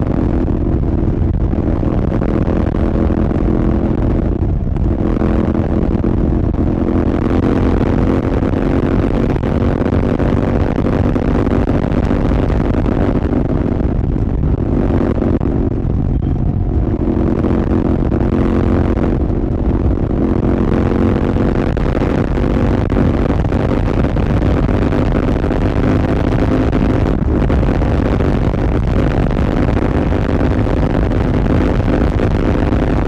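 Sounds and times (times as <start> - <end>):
motorcycle engine cruising: 0.0 - 33.0
wind rushing over microphone: 0.0 - 33.0.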